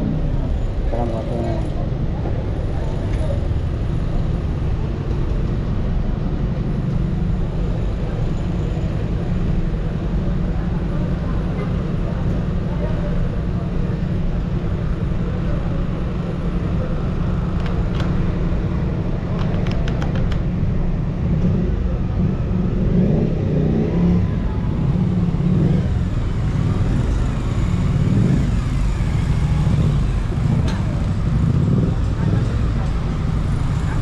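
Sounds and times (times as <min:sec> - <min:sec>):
motorcycle engines rumbling: 0:00.0 - 0:34.0.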